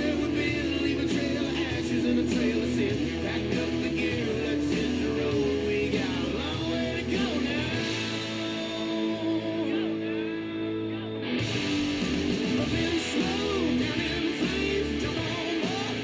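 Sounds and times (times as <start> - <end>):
guitar rock music: 0.0 - 16.0.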